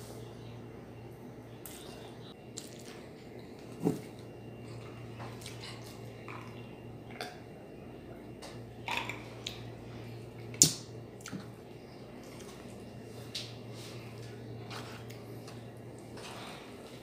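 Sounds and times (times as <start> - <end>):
low steady hum: 0.0 - 17.0
wet squishes of eating by hand: 1.6 - 7.6, 8.5 - 17.0.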